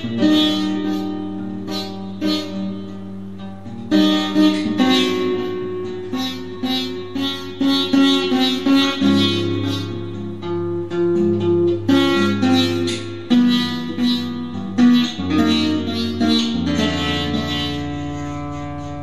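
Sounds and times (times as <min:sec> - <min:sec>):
acoustic guitar plucked notes: 0:00.0 - 0:19.0.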